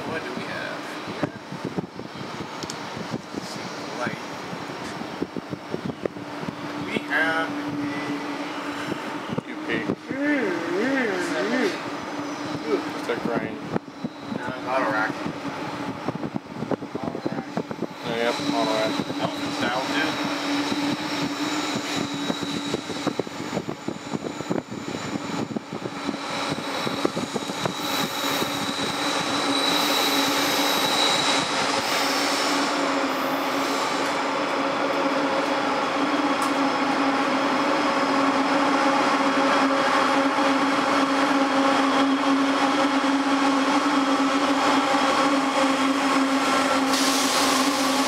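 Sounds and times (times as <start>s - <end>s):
diesel locomotive engine drone: 0.0s - 48.0s
train rolling rumble: 0.0s - 48.0s.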